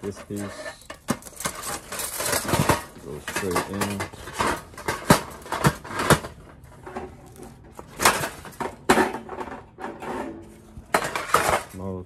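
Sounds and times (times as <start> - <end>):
metal parts knocking and clinking: 0.0 - 11.8
scraping and rustling: 0.0 - 12.0.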